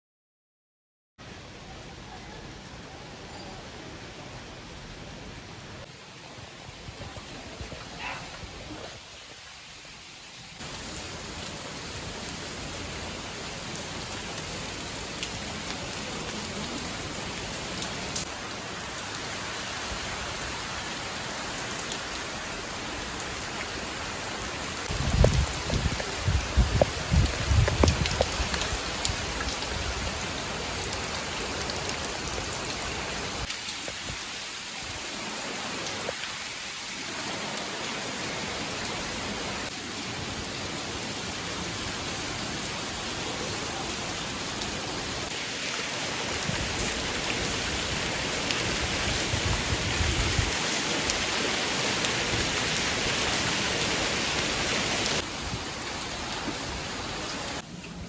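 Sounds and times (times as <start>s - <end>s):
rain falling: 1.2s - 58.0s.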